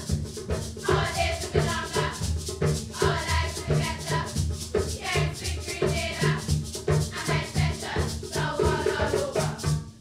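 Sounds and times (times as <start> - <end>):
percussive beat: 0.0 - 10.0
shaker rattle: 0.0 - 10.0
girls singing in unison: 0.8 - 6.5, 7.1 - 9.8.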